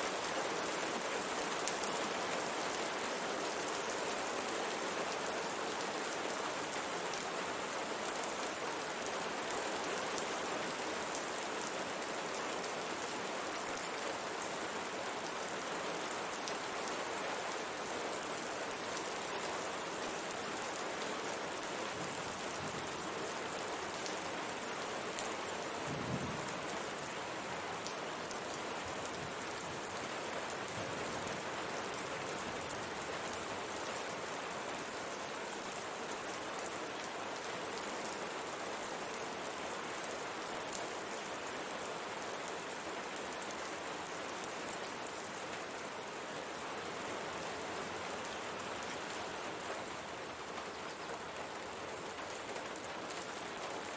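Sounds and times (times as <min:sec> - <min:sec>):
rain on a window pane: 0:00.0 - 0:53.9.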